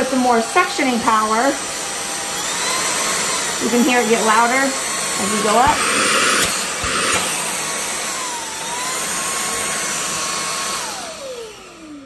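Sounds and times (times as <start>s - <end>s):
stick vacuum motor whine: 0.0s - 12.0s.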